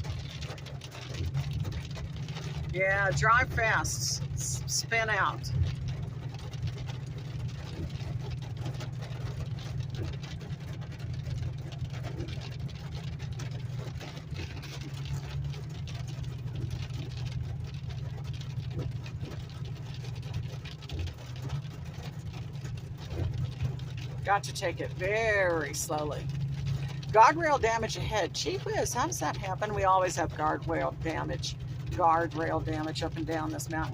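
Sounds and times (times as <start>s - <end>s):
car engine and tyres rumbling: 0.0s - 33.9s.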